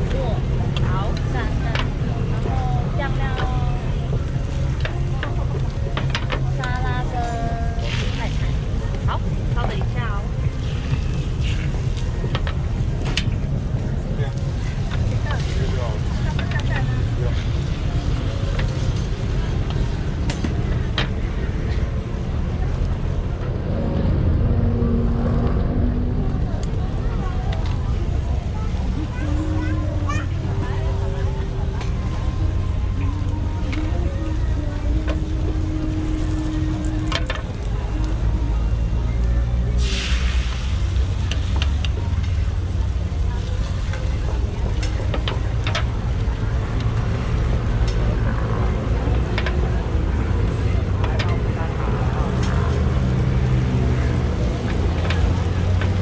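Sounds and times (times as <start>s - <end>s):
faint voices: 0.0s - 56.0s
steady low rumble: 0.0s - 56.0s.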